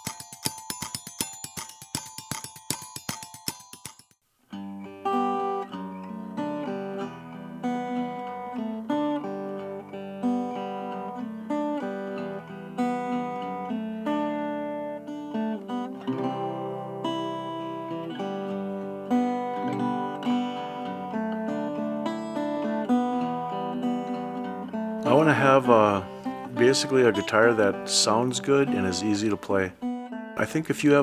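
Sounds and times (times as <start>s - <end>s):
acoustic guitar playing: 0.0s - 3.8s, 4.5s - 31.0s.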